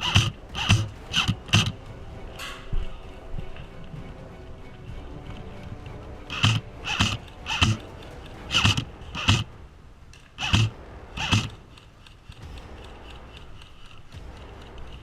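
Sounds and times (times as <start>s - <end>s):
footsteps walking: 0.0s - 9.5s, 10.1s - 15.0s.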